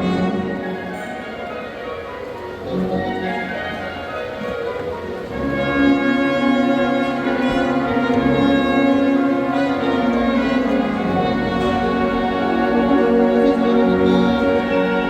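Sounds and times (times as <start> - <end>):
wind band playing chords: 0.0 - 15.0.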